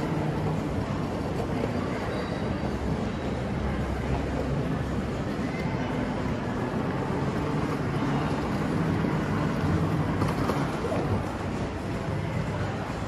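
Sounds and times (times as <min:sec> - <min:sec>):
shopping mall ambience hum and hiss: 0:00.0 - 0:13.0.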